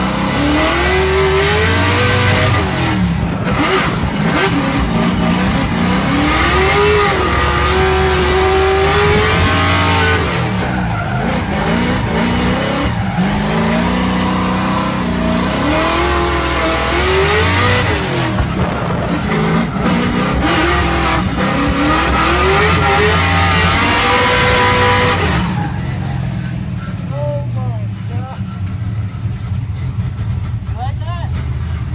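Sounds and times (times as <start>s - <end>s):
car engines revving: 0.0s - 31.9s
tyre squeal: 0.1s - 27.3s.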